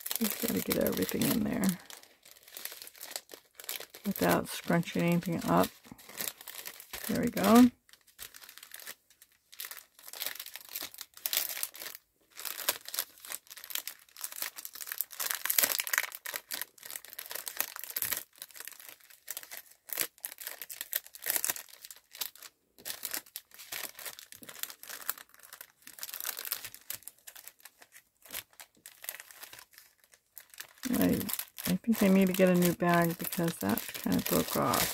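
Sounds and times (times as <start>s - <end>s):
plastic bag crinkling: 0.0s - 34.9s.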